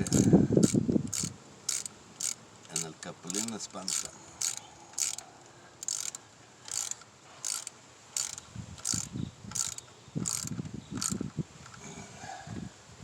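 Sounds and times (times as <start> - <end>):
ratchet wrench clicking: 0.0 - 5.2, 5.8 - 11.3.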